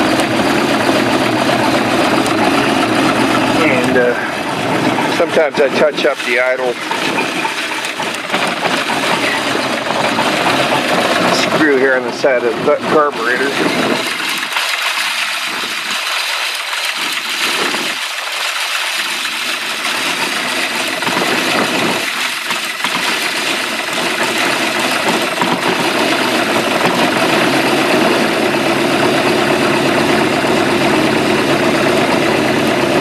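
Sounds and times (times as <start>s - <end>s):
boat engine idling: 0.0s - 33.0s.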